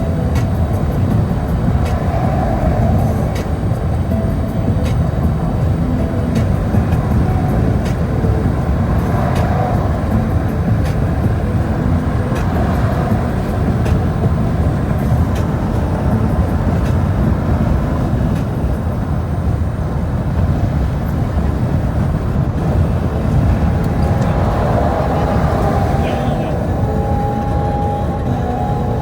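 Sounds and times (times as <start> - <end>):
vehicle low rumble: 0.0 - 29.0.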